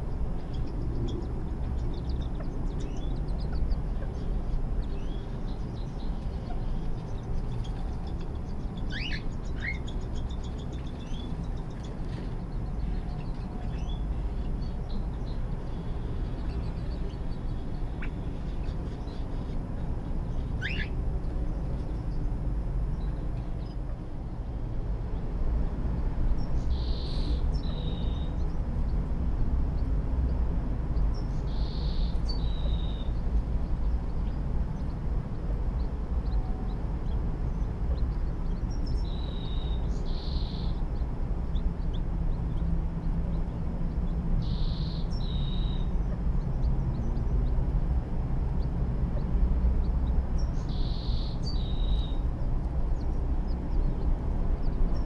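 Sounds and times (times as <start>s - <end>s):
steady low rumble: 0.0s - 55.0s.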